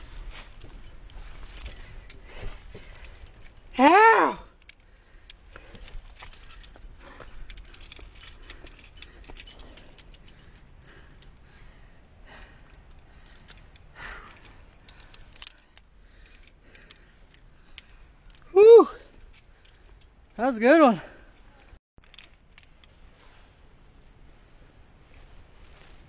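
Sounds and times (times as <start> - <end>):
sharp metal clinks: 0.0 - 22.7
climbing gear clinking: 0.0 - 24.2, 25.0 - 26.0.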